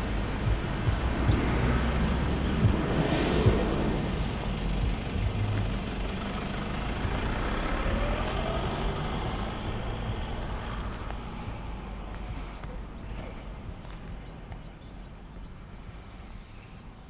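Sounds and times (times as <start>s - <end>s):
large vehicle engine running: 0.0s - 17.0s.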